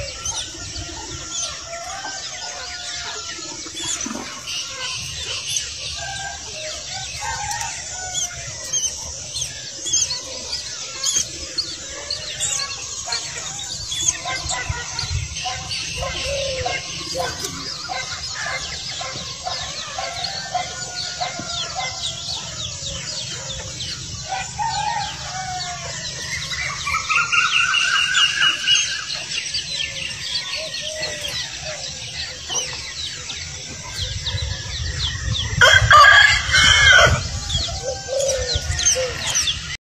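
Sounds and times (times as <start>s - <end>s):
bird calls: 0.0s - 39.8s.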